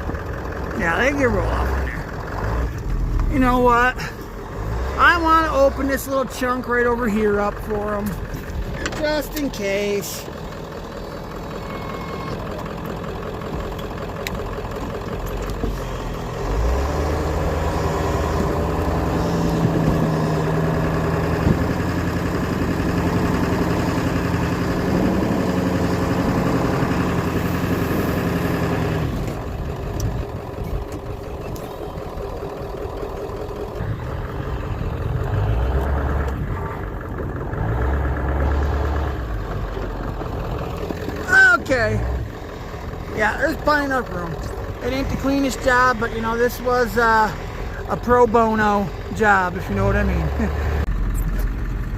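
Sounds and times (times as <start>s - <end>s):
diesel truck engine under load: 0.0s - 51.9s.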